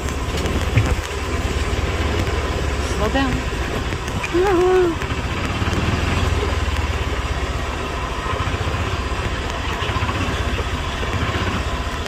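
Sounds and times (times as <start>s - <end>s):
golf cart rumbling on dirt road: 0.0s - 12.0s.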